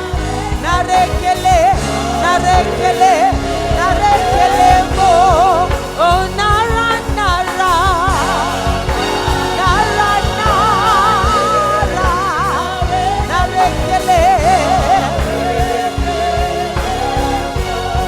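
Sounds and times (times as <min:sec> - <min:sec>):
band playing steady beat: 0:00.0 - 0:18.0
person singing with vibrato: 0:00.0 - 0:18.0.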